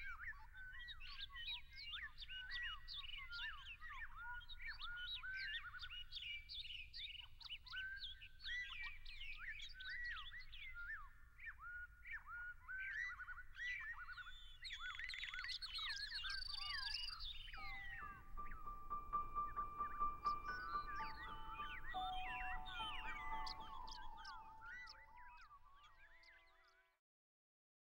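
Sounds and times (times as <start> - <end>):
birds chirping and singing: 0.0 - 25.4.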